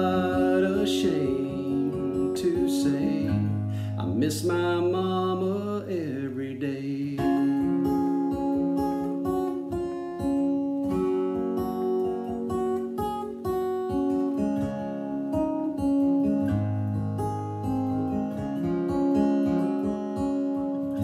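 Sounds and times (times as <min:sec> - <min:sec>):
acoustic guitar picked chords: 0:00.0 - 0:21.0.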